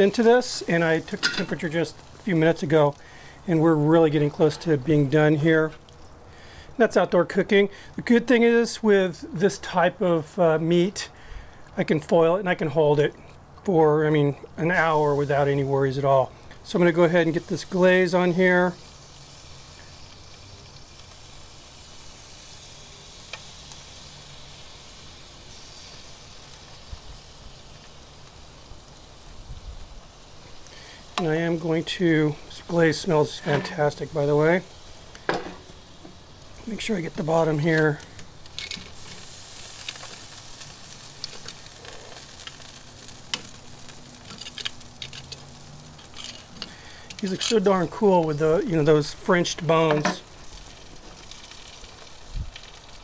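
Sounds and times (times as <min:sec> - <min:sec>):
meat sizzling on grill: 0:00.0 - 0:53.0.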